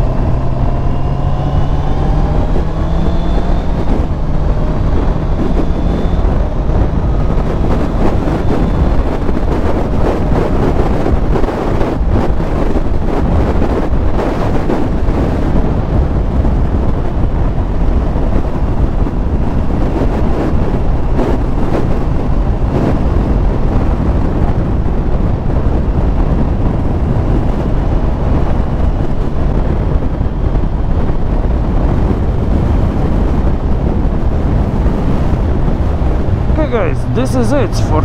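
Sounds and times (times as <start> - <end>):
vehicle noise: 0.0 - 38.0
wind rumble on microphone: 0.0 - 38.0.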